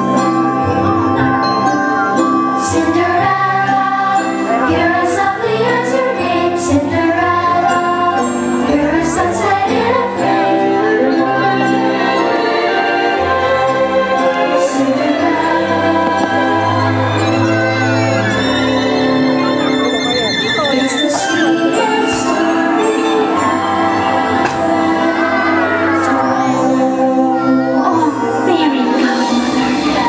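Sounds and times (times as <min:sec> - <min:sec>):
person singing: 0:00.0 - 0:17.8, 0:21.1 - 0:30.0
orchestral music: 0:00.0 - 0:30.0.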